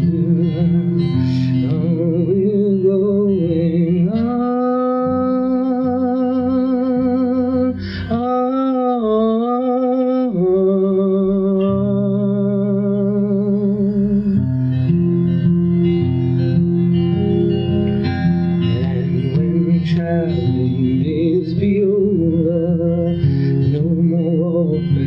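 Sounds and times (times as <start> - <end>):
person singing long notes with vibrato: 0.0 - 15.7, 16.5 - 25.0
guitar accompaniment: 0.0 - 25.0.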